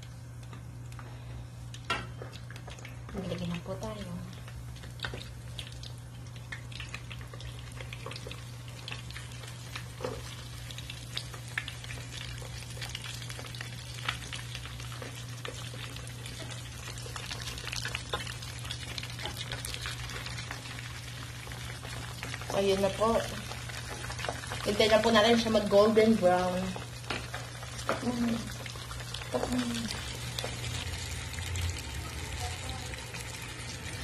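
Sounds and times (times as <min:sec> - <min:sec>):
chicken wings sizzling in oil: 0:01.8 - 0:34.0.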